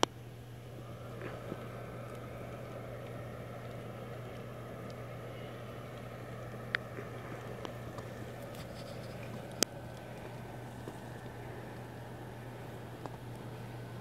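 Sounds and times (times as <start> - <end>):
small blower fan running: 0.0 - 14.0.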